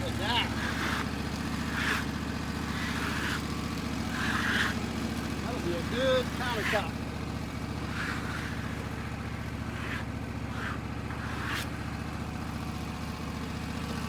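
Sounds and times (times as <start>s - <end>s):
sawmill engine running: 0.0s - 14.0s.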